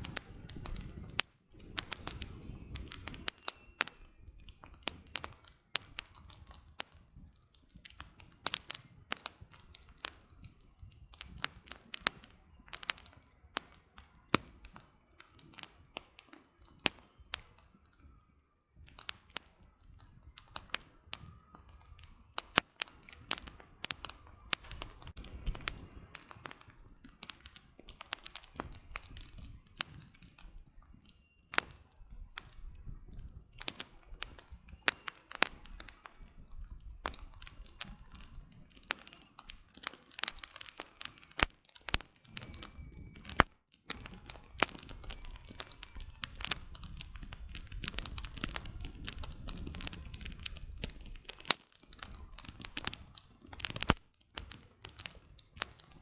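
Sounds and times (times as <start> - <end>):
low rush of flame: 0.0 - 14.8, 18.8 - 31.0, 31.6 - 56.0
campfire crackling and popping: 0.0 - 56.0.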